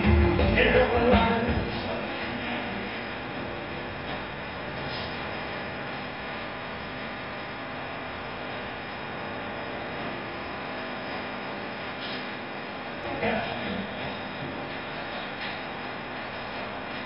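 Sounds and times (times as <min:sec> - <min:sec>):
potter's wheel humming: 0:00.0 - 0:17.0.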